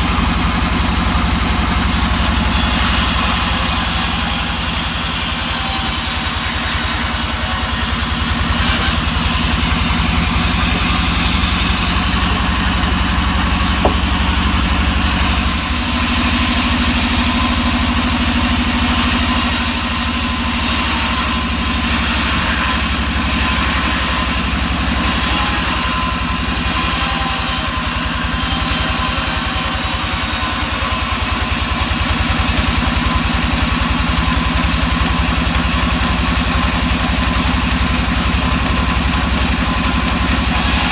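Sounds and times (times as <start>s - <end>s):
saw hissing through wood: 0.0s - 40.9s
sawmill engine chugging: 0.0s - 40.9s.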